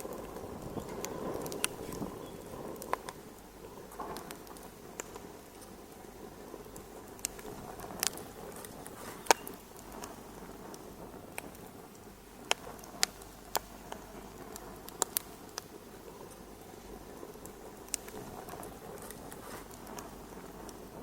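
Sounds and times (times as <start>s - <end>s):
fire hissing: 0.0s - 21.0s
wood fire popping and snapping: 0.0s - 21.0s.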